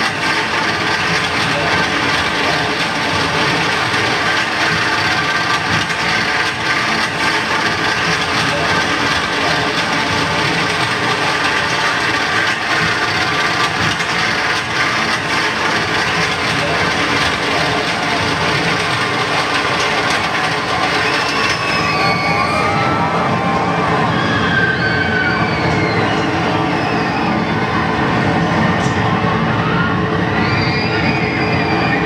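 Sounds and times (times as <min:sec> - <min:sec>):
loud rushing roar: 0:00.0 - 0:32.0.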